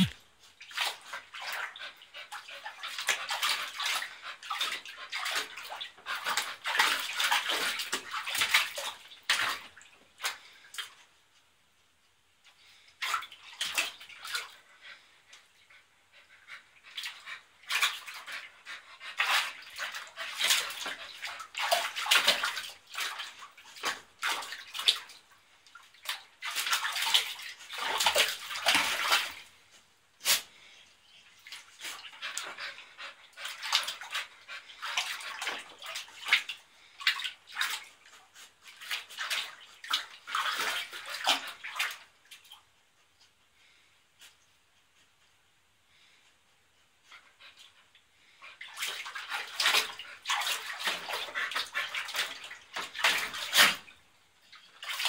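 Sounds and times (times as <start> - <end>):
water splashing in a plastic tub: 0.0 - 11.0, 12.8 - 14.9, 16.8 - 42.7, 47.5 - 55.0.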